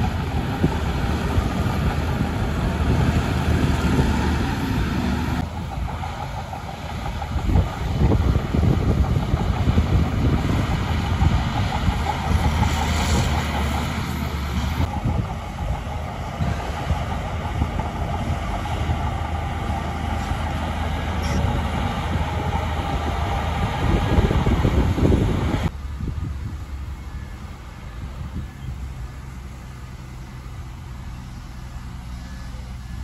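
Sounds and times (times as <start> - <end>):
heavy diesel machinery rumbling: 0.0 - 33.0.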